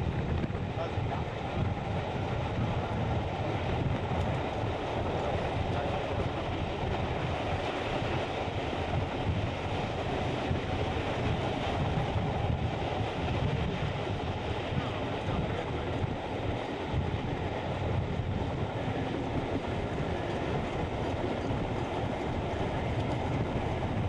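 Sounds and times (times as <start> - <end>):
train coaches rumbling on rails: 0.0 - 24.0.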